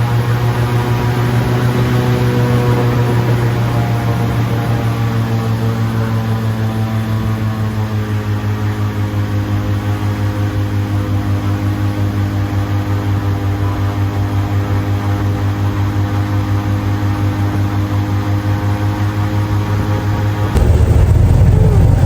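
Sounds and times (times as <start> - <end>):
airboat engine and propeller drone: 0.0 - 22.0.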